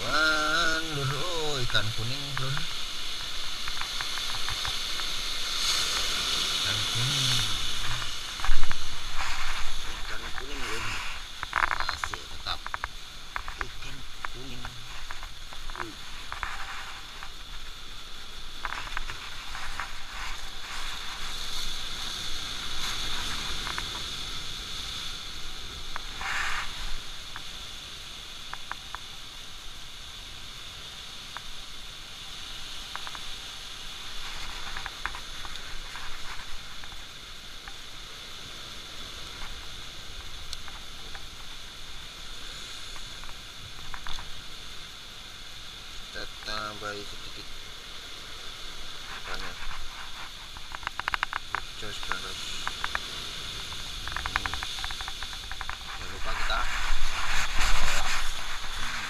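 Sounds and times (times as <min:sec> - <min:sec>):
steady outdoor hiss: 0:00.0 - 0:59.0.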